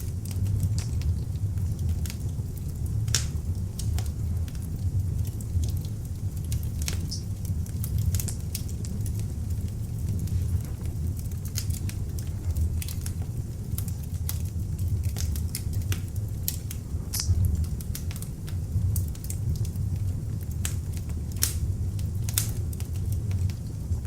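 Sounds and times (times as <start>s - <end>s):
fire crackling and popping: 0.0s - 24.0s
low rumble of flame: 0.0s - 24.0s.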